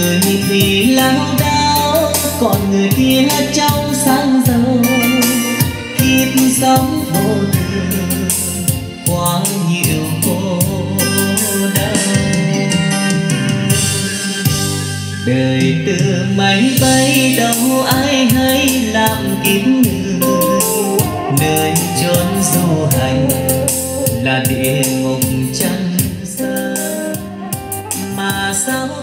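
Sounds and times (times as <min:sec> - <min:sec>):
backing track with drum beat: 0:00.0 - 0:29.0
person singing karaoke: 0:00.0 - 0:29.0.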